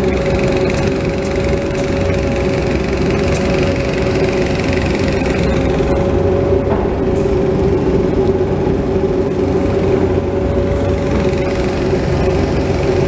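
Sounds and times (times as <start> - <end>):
excavator diesel engine and hydraulics: 0.0 - 13.0
steady hum: 0.0 - 13.0.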